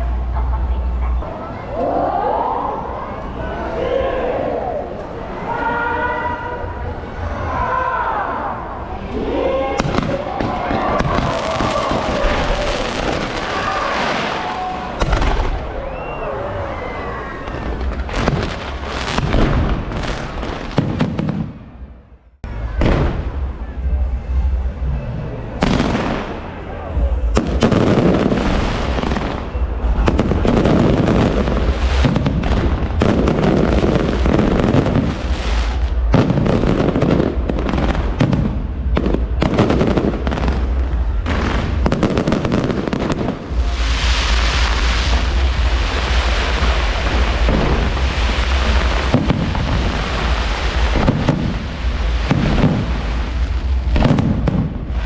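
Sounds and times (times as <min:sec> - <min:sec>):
fireworks bursts and booms: 0:08.9 - 0:16.1, 0:17.3 - 0:55.0
crackling hiss of fireworks: 0:09.0 - 0:21.8, 0:22.5 - 0:55.0.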